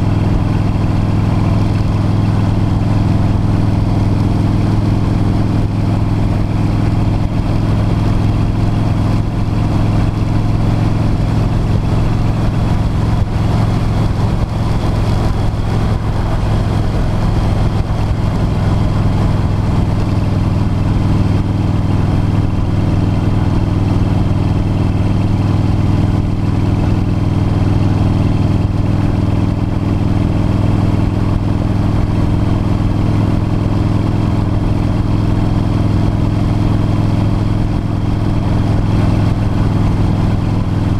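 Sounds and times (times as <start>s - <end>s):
motorcycle engine cruising: 0.0s - 40.9s
road and wind noise: 0.0s - 40.9s.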